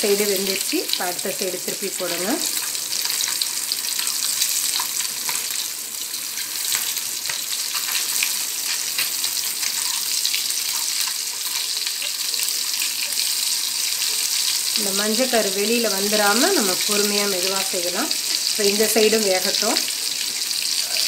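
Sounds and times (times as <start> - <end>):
eggs sizzling in hot oil: 0.0 - 21.0.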